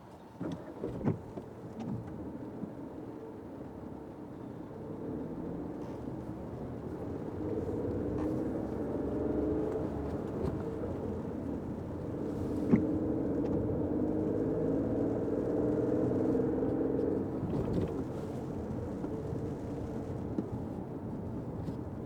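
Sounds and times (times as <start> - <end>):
road and tyre noise: 0.0 - 22.0
car engine hum: 0.1 - 22.0.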